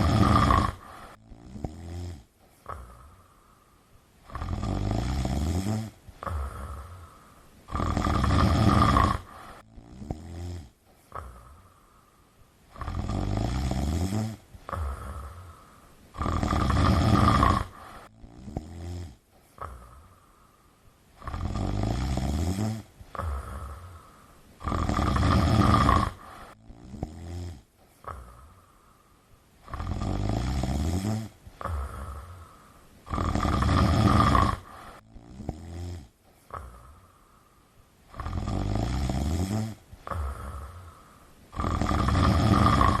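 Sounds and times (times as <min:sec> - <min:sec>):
cat snoring: 0:00.0 - 0:03.3, 0:04.2 - 0:11.8, 0:12.7 - 0:20.2, 0:21.2 - 0:28.7, 0:29.6 - 0:37.1, 0:38.1 - 0:43.0.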